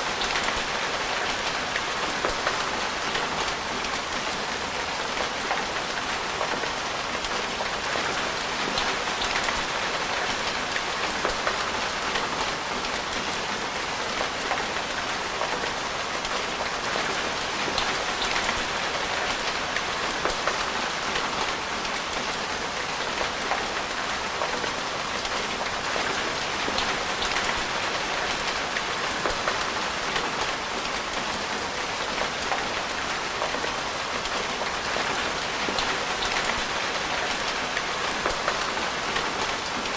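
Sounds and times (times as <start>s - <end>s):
steady rain hiss: 0.0s - 39.9s
raindrops ticking on a surface: 0.1s - 39.9s.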